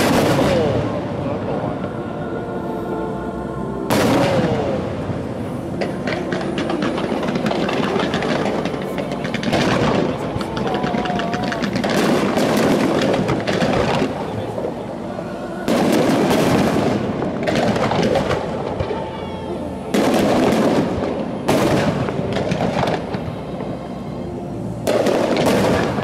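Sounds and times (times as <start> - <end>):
fireworks bangs and crackling: 0.0 - 1.8, 3.9 - 26.0.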